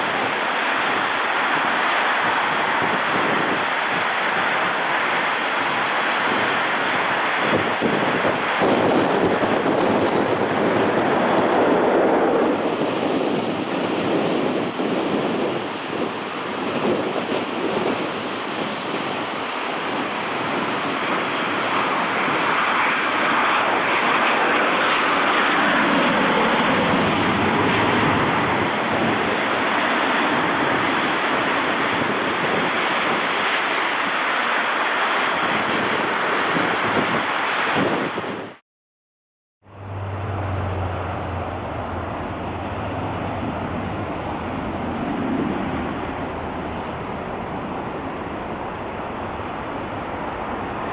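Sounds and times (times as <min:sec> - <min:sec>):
jet engines roaring: 0:00.0 - 0:38.6, 0:39.7 - 0:50.9.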